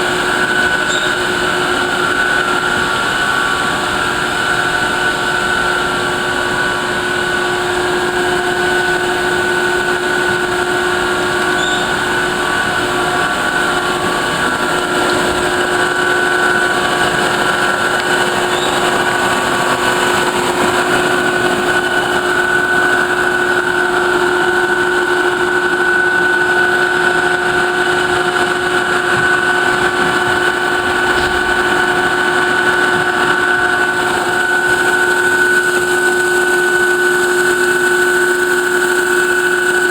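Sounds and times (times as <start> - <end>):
grinding machine drone with whine: 0.0 - 39.9.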